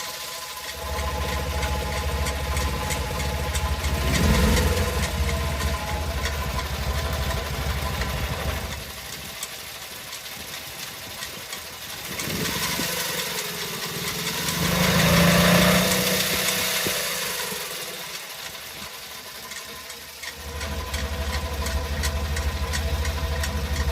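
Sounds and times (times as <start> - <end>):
engine with abnormal noise: 0.0 - 23.9.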